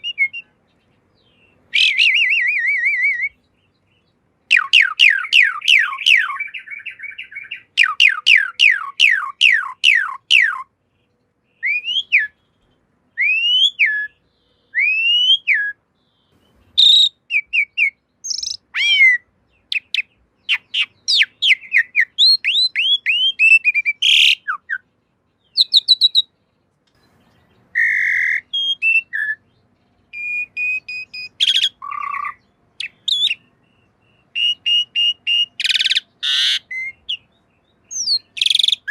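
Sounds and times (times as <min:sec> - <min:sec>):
starling singing whistles: 0:00.0 - 0:00.6, 0:01.7 - 0:03.4, 0:04.5 - 0:10.7, 0:11.6 - 0:12.5, 0:13.2 - 0:15.8, 0:16.8 - 0:24.8, 0:25.5 - 0:26.3, 0:27.7 - 0:38.9.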